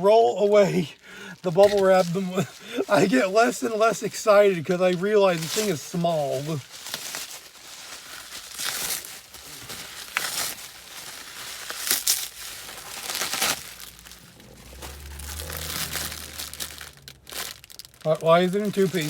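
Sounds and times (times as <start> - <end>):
bubble wrap crinkling: 0.5 - 19.0.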